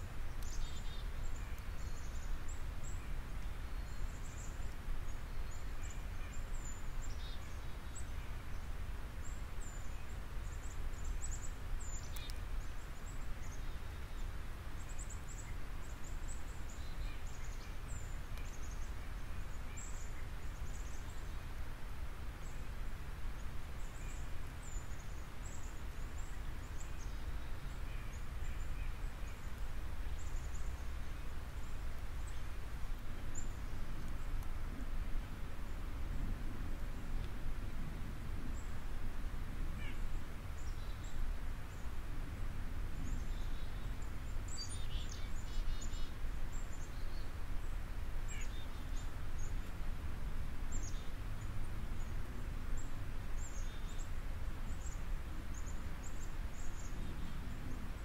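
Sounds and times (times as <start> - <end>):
small birds chirping: 0.0 - 35.9, 39.7 - 42.0, 42.9 - 58.0.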